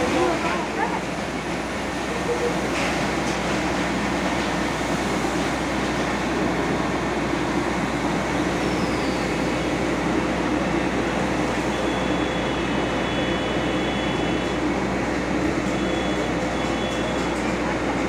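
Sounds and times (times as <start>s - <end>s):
fire truck engine running: 0.0s - 18.0s.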